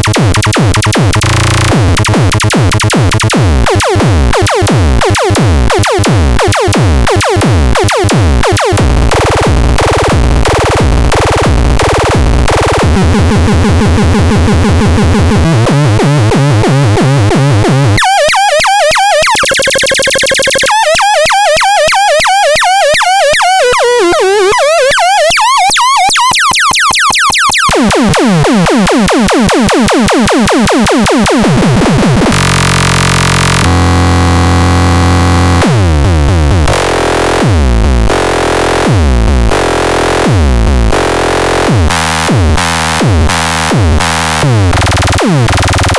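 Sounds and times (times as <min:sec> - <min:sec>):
electronic synthesized patterns: 0:00.0 - 0:34.1, 0:41.0 - 0:45.9.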